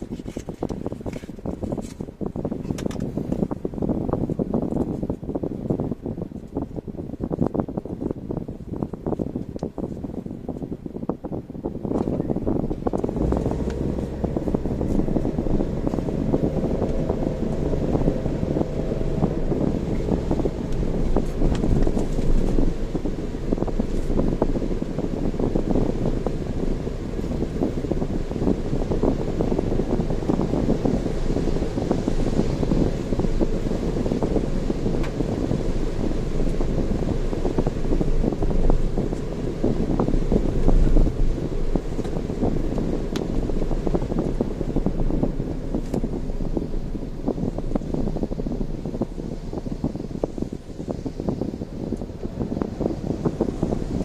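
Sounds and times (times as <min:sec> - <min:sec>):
vehicle engine rumble: 0:00.0 - 0:54.0
wind buffeting microphone: 0:00.0 - 0:54.0.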